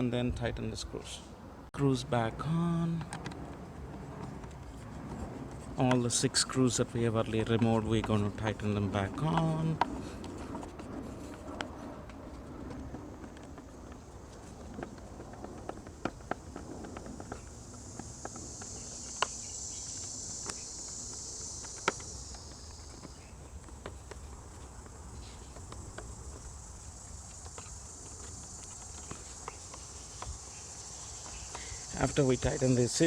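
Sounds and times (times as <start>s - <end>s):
crickets chirring: 1.8s - 33.0s.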